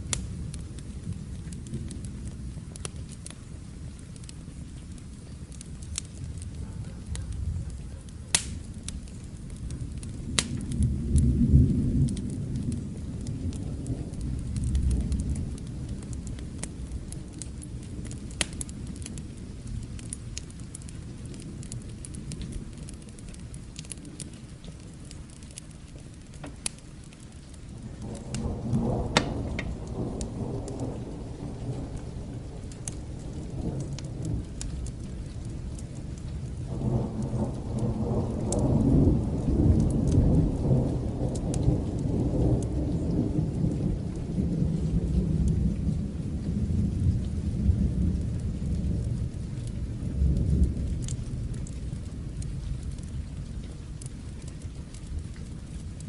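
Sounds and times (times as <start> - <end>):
steady rain: 0.0 - 56.0
rolling thunder: 5.6 - 25.4, 27.7 - 55.8.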